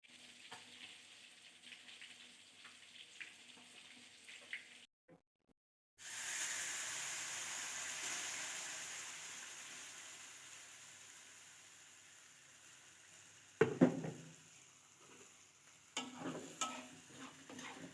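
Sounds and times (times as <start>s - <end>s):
food frying in hot oil: 0.0s - 4.9s, 6.0s - 17.9s.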